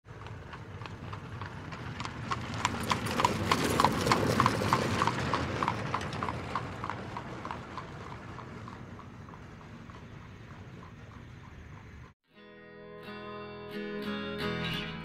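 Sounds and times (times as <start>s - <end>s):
cart wheels rumbling: 0.0s - 12.2s
horse hooves clip-clopping: 0.1s - 12.2s.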